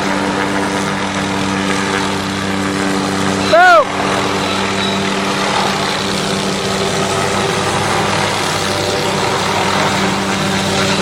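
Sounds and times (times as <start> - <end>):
helicopter rotor and engine drone: 0.0 - 11.0.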